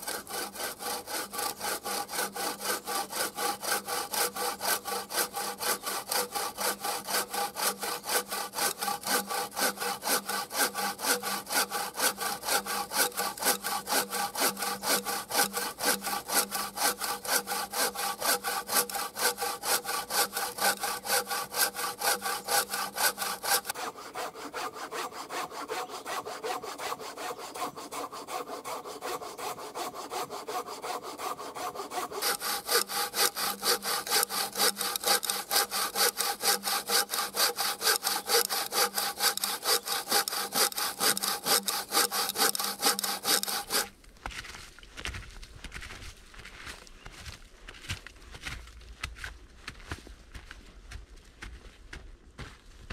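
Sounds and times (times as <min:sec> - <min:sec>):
bow saw cutting log: 0:00.0 - 0:44.0.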